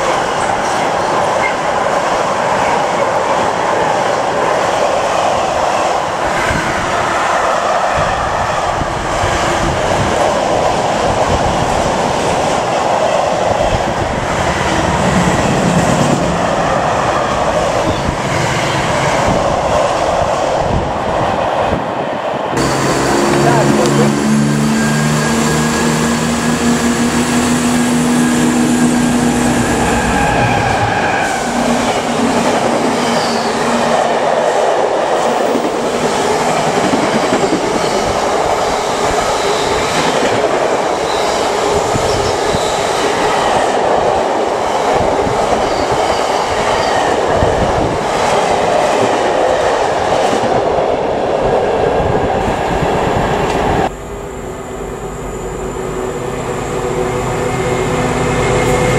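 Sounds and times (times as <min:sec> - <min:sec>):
train engine drone: 0:00.0 - 0:58.9.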